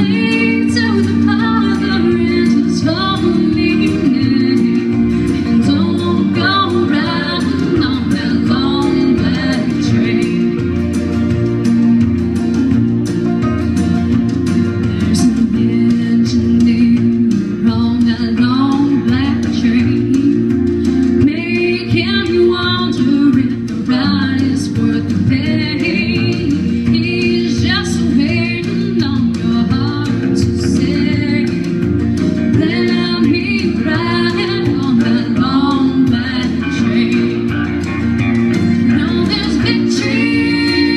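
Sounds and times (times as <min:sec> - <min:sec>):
instrumental accompaniment: 0:00.0 - 0:40.9
woman singing country song: 0:00.0 - 0:40.9.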